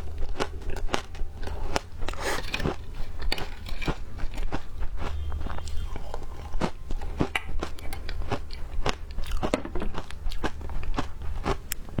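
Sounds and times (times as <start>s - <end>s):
ice being bitten and chewed: 0.0s - 12.0s
steady low hum: 0.0s - 12.0s.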